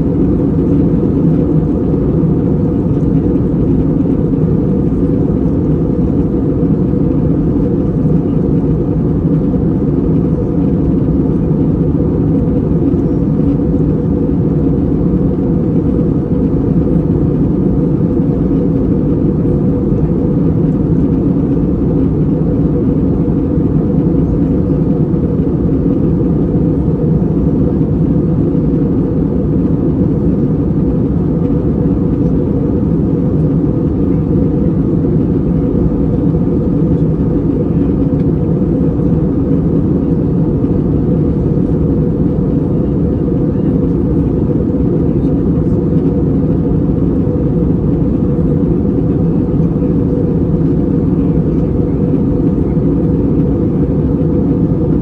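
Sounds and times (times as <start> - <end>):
airplane cabin engine drone: 0.0 - 55.0.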